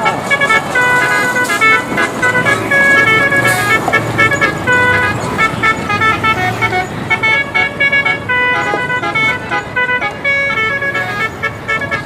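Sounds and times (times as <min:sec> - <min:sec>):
multi-tone bus horn playing tune: 0:00.0 - 0:12.0.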